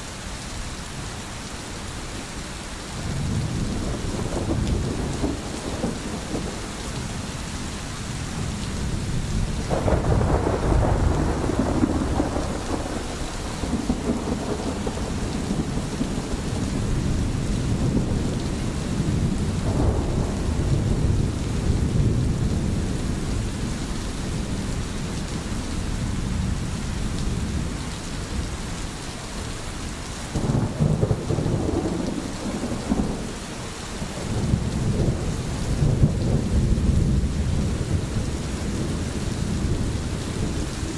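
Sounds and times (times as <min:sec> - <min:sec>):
steady rain: 0:00.0 - 0:40.9
low rolling thunder: 0:03.0 - 0:28.5, 0:30.3 - 0:33.4, 0:34.0 - 0:40.9.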